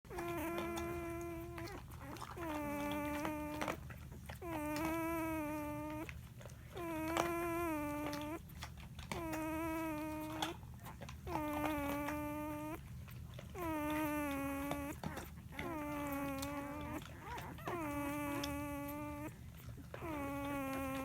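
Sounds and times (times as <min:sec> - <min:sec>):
puppy snoring: 0:00.1 - 0:21.0.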